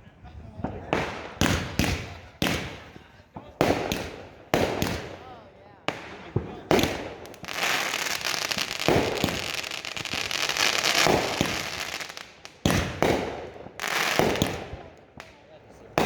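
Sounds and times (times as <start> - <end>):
fireworks crackling: 0.0 - 16.0
sharp firework bangs: 0.6 - 15.4.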